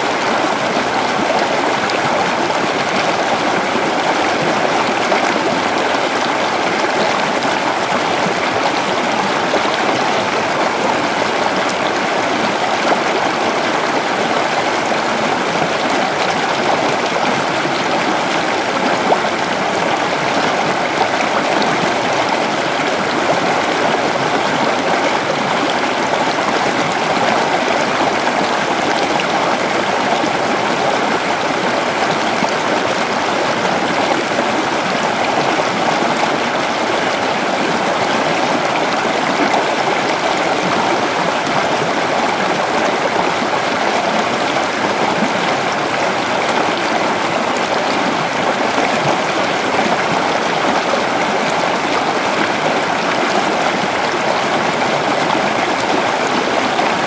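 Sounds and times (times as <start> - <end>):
river splashing over stones: 0.0 - 57.0.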